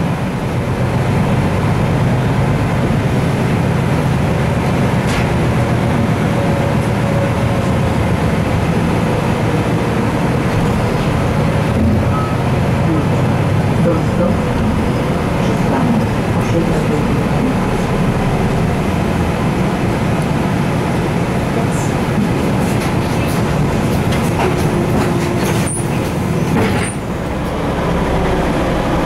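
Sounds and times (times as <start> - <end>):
bus engine hum: 0.0 - 29.0
road noise: 0.0 - 29.0.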